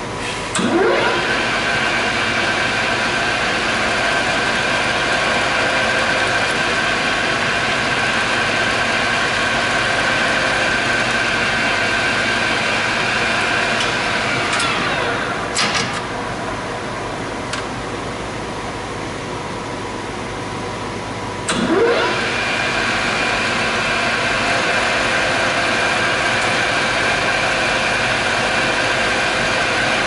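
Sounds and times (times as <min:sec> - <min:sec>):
lathe running with mechanical whine: 0:00.0 - 0:30.0.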